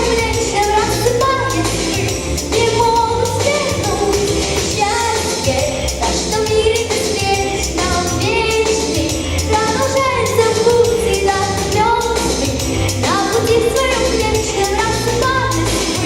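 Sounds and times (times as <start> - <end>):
instrumental accompaniment with beat: 0.0 - 16.0
person singing pop song: 0.0 - 16.0.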